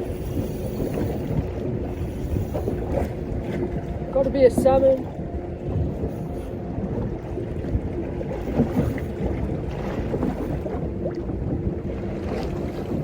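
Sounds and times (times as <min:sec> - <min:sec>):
water washing around boat: 0:00.0 - 0:13.0
wind buffeting microphone: 0:00.0 - 0:13.0.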